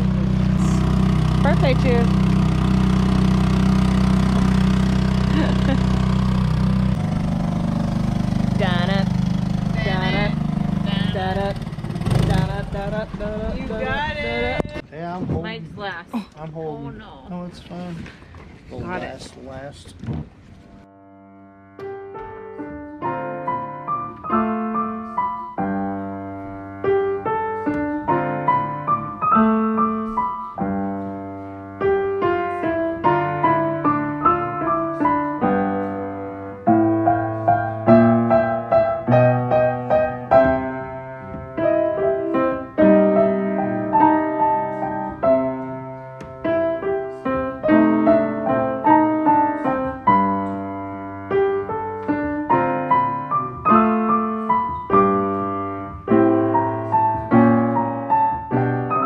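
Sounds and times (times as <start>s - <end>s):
bluesy piano music: 0.0s - 14.8s, 20.6s - 59.0s.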